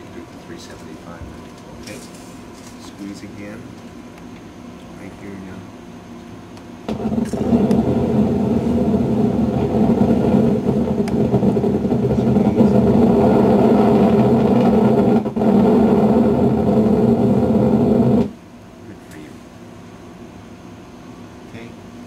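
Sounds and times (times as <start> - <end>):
monitor speaker buzzing and crackling: 0.0 - 22.0.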